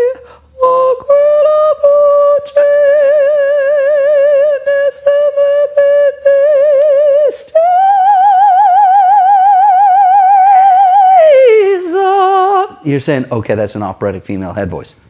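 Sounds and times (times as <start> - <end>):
operatic singing with vibrato: 0.0 - 13.3.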